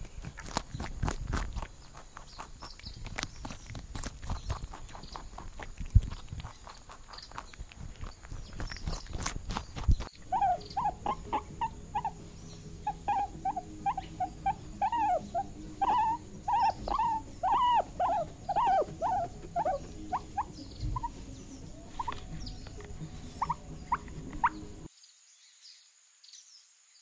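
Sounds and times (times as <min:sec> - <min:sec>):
rabbit squeaking: 0:00.0 - 0:24.9.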